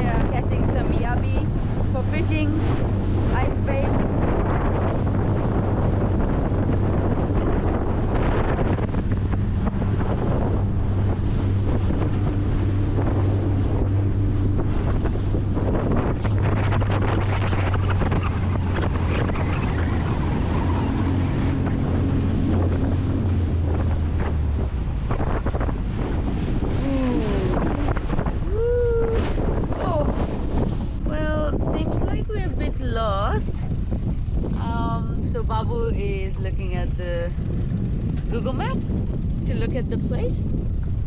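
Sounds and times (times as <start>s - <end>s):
outboard motor running: 0.0s - 41.0s
water splashing against hull: 0.0s - 41.0s
wind buffeting microphone: 0.0s - 41.0s.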